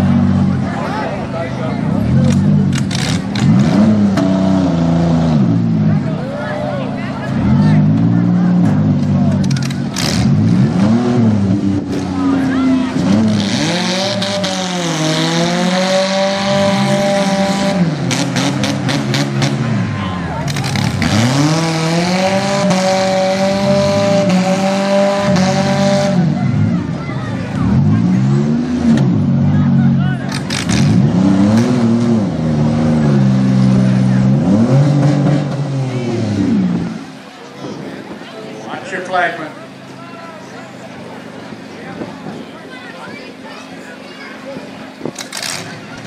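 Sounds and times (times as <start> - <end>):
car engines revving hard: 0.0 - 46.0.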